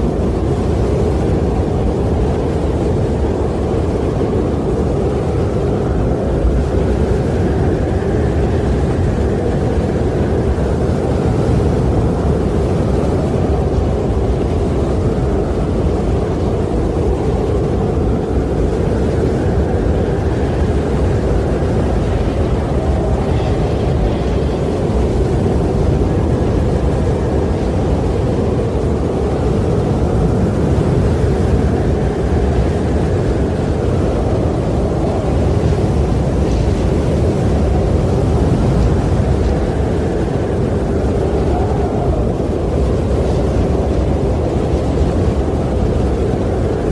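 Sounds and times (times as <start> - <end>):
wind rushing: 0.0 - 46.9.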